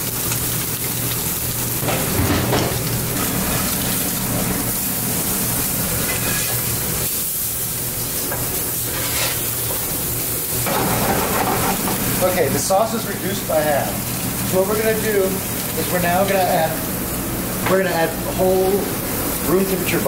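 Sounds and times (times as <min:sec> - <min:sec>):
fish sizzling in butter: 0:00.0 - 0:20.0.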